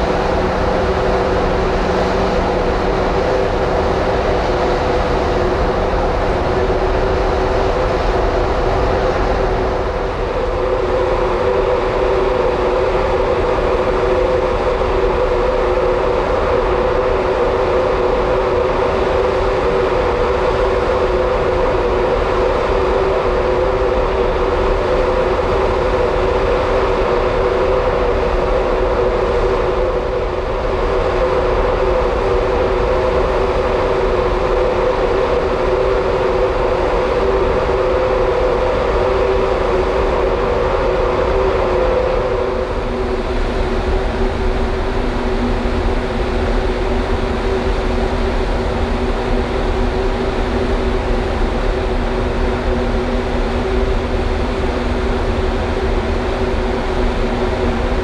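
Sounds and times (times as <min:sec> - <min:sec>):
ship machinery drone: 0:00.0 - 0:58.0
steady hum tones: 0:00.0 - 0:58.0.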